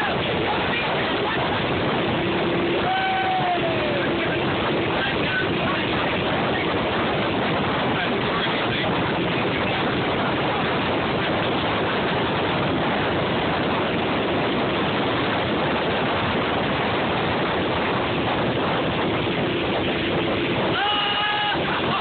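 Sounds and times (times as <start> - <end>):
water rushing past boat: 0.0 - 22.0
wind rushing: 0.0 - 22.0.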